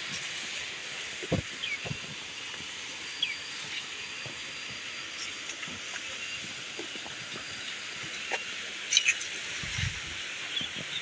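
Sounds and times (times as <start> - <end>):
high-pitched forest hiss: 0.0 - 11.0.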